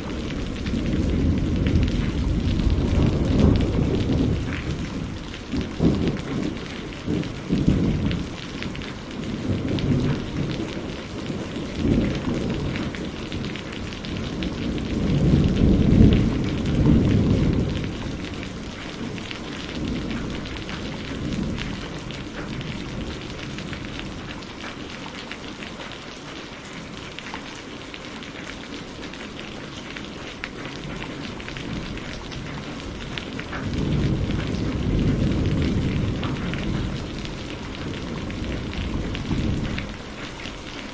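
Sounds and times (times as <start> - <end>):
thunder rumbling: 0.0 - 24.9, 30.4 - 40.9
steady rain: 0.0 - 40.9.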